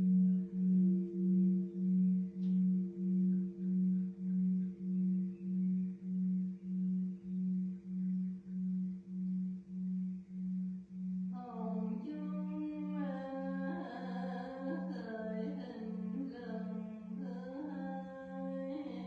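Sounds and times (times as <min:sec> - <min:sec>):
temple bell humming: 0:00.0 - 0:19.0.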